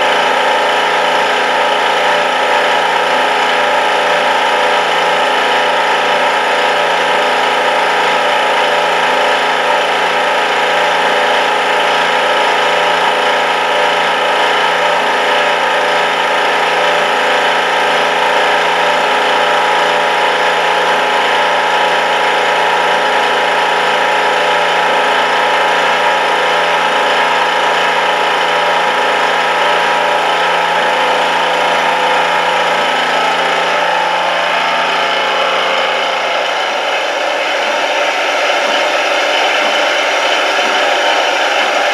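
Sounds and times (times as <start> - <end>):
milling machine cutting metal: 0.0 - 41.9.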